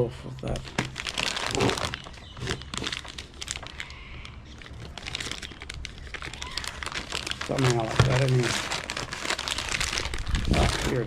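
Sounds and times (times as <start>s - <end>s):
plastic packaging crinkling: 0.4s - 11.0s.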